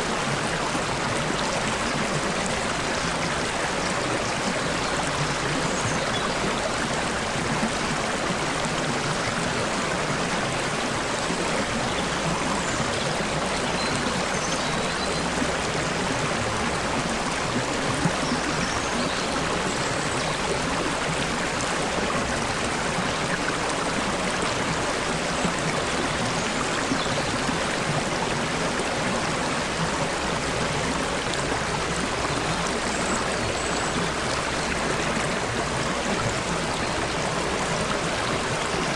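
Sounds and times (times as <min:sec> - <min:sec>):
stream water over stones: 0:00.0 - 0:38.9.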